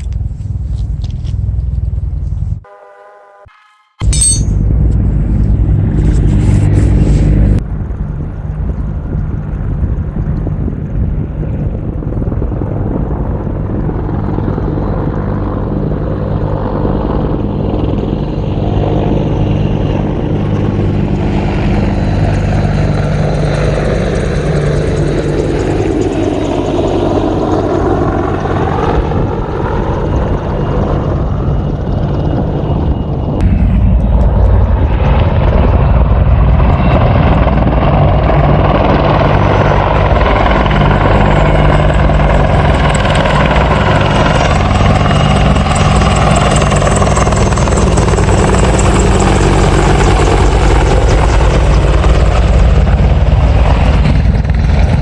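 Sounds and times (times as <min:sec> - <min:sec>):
helicopter flying over: 0:00.0 - 0:55.0.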